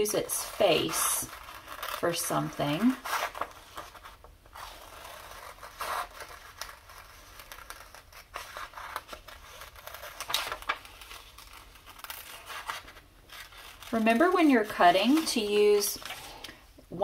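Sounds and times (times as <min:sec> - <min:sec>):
scissors cutting paper: 0:00.1 - 0:16.1.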